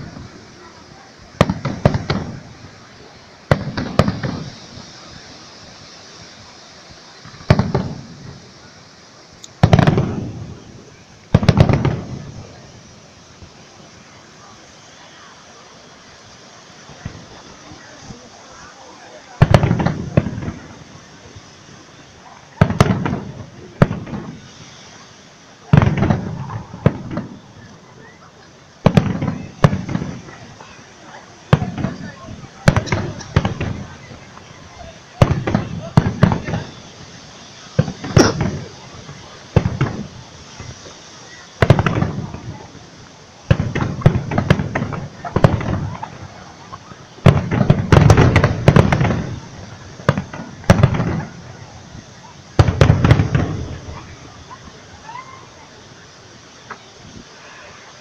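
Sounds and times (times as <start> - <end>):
firework shells bursting: 0.0 - 14.1, 19.4 - 55.1.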